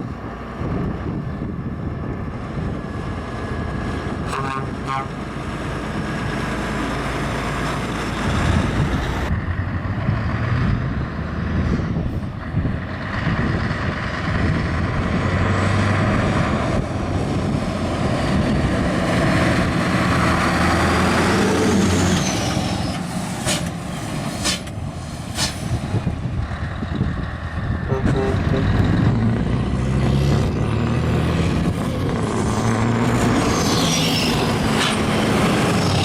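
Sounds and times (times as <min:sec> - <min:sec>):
truck diesel engines running: 0:00.0 - 0:36.0.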